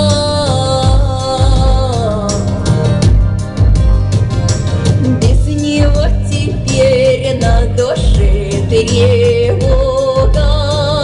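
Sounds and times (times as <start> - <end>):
woman singing into microphone: 0.0 - 3.0, 5.0 - 11.0
backing track with steady beat: 0.0 - 11.0.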